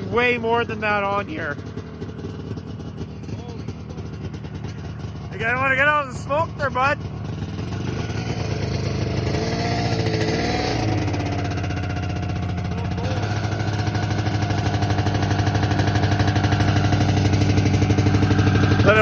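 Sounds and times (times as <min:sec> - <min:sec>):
snowmobile engine idling: 0:00.0 - 0:19.0.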